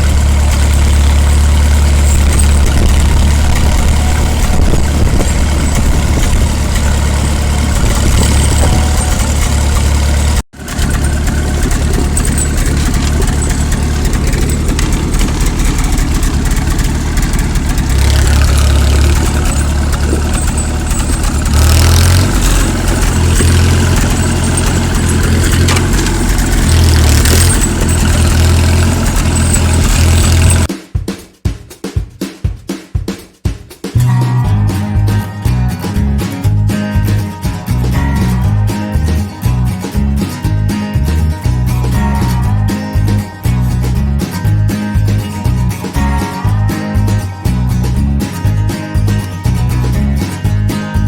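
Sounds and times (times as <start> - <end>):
tractor engine running: 0.0 - 30.7, 34.0 - 50.8.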